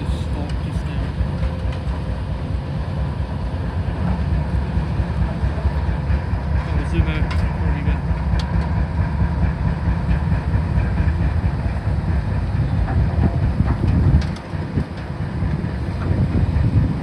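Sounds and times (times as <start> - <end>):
heavy diesel machinery rumbling: 0.0 - 17.0
wind buffeting microphone: 0.0 - 17.0.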